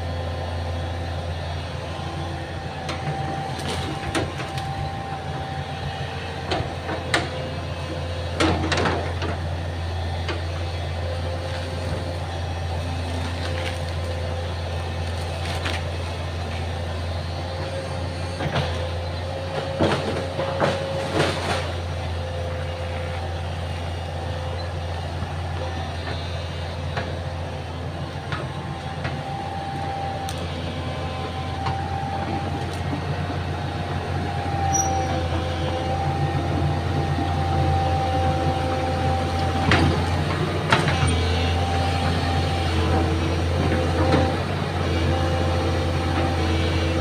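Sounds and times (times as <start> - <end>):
excavator engine running: 0.0 - 47.0.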